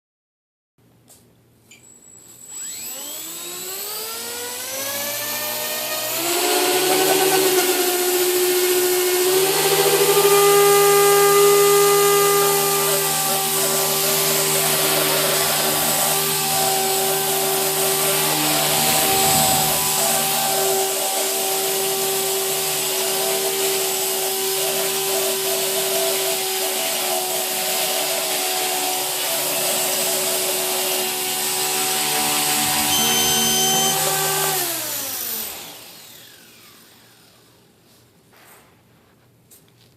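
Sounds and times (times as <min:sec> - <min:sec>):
electric motor whining: 0:01.8 - 0:28.4, 0:29.0 - 0:37.6.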